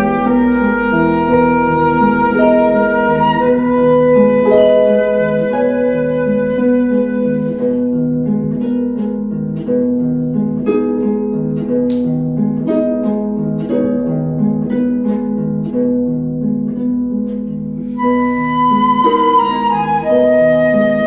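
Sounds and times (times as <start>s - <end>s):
harp playing: 0.0s - 21.0s.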